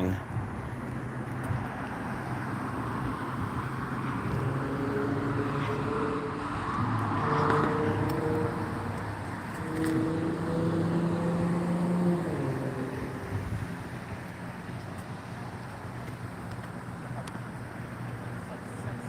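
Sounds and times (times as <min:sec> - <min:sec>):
road traffic engines humming: 0:00.0 - 0:19.0.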